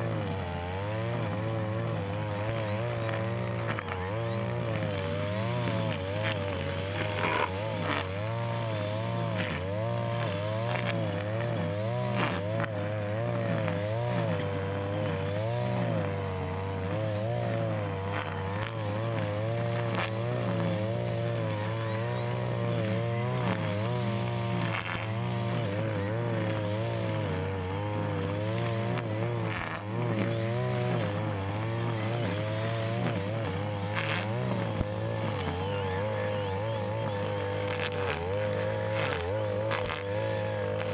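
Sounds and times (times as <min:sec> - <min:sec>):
brush cutter engine running: 0:00.0 - 0:40.9.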